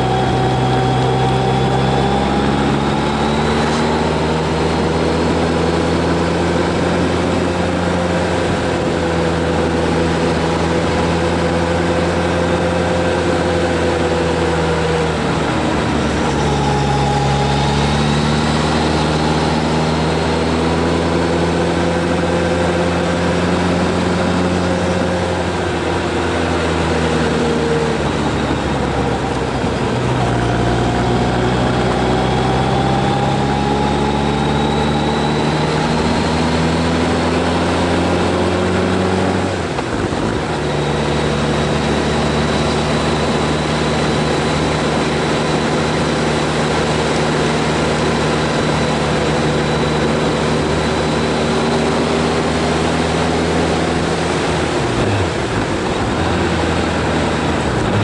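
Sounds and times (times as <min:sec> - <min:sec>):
vehicle engine under load: 0:00.0 - 0:58.0.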